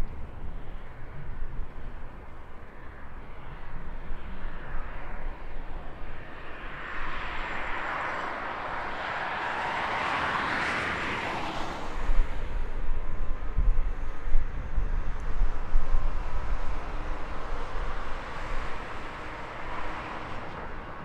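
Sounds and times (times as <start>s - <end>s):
jet airliner engines roaring: 0.0s - 21.0s.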